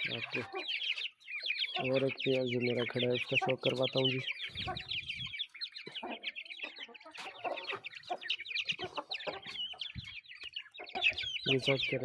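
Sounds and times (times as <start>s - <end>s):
chicken clucks: 0.0s - 12.0s
chicks peeping: 0.0s - 12.0s.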